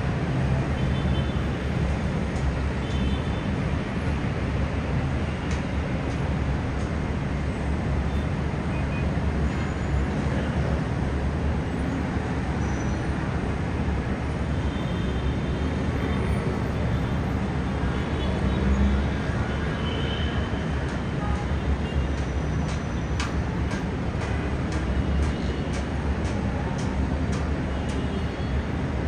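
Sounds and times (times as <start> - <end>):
heavy road traffic hum: 0.0 - 29.0.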